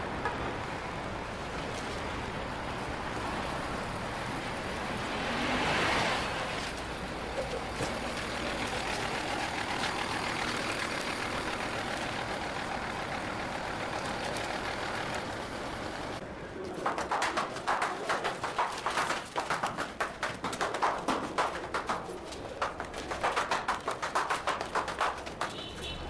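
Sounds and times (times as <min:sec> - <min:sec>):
vehicle engines and road noise: 0:00.0 - 0:26.0.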